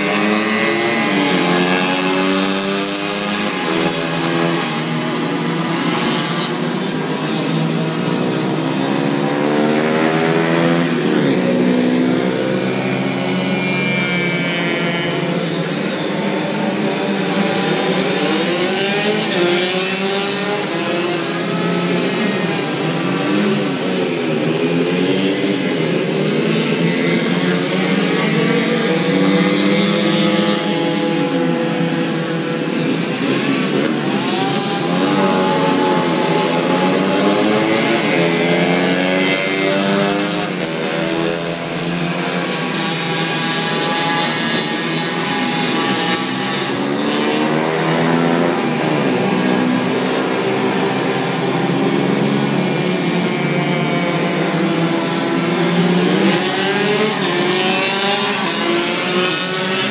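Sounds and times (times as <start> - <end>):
moped engines running hard: 0.0 - 59.9.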